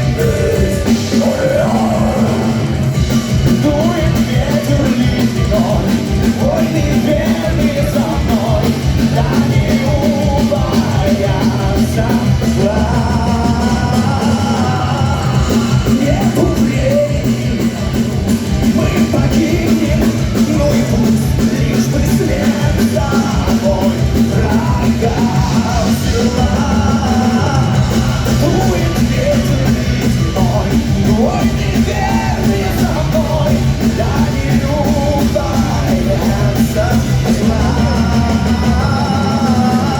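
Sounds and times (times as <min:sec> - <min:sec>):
drums: 0:00.0 - 0:39.9
heavy metal band playing live: 0:00.0 - 0:39.9
person singing: 0:00.0 - 0:39.9.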